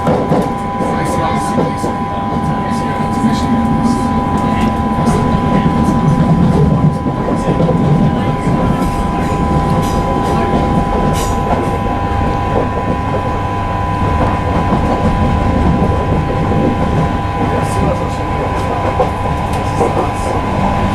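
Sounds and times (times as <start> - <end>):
wheels clicking on rail: 0.0 - 13.4, 14.0 - 20.9
train wheels rumbling on rail: 0.0 - 20.9
two-note electric whine: 0.0 - 20.9.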